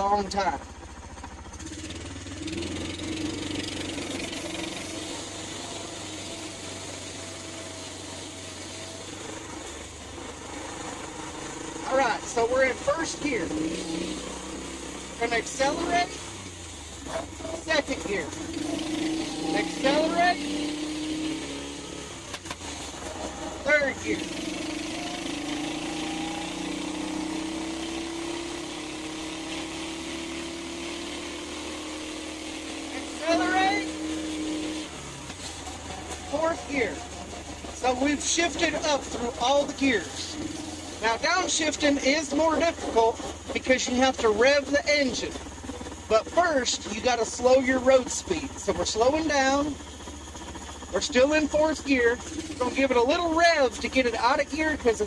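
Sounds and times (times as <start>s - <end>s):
single-cylinder engine running: 0.0s - 55.0s.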